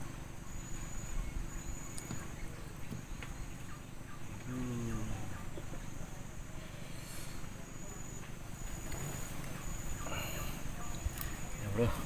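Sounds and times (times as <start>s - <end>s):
low outdoor rumble: 0.0s - 12.0s
insects trilling: 0.2s - 12.0s.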